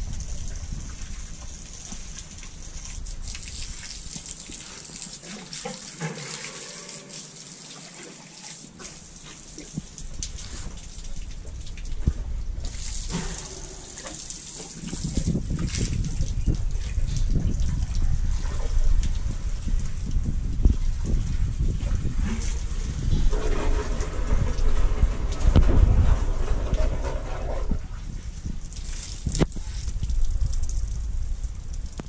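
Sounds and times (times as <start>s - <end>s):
hose water splashing on concrete: 0.0s - 32.0s.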